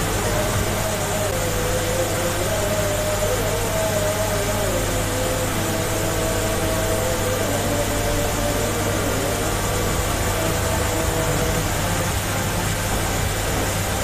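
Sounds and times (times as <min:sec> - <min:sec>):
churned water rushing: 0:00.0 - 0:14.0
low electric hum: 0:00.0 - 0:14.0.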